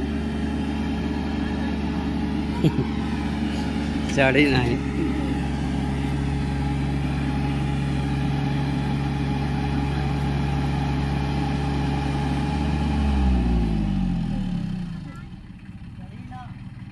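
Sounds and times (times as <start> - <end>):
tractor diesel engine rumbling: 0.0 - 16.9.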